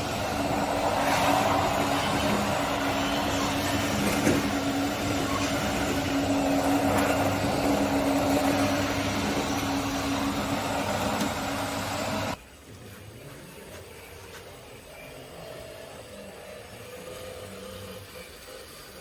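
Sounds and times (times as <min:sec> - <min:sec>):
toy machine motor hum and whir: 0:00.0 - 0:19.0.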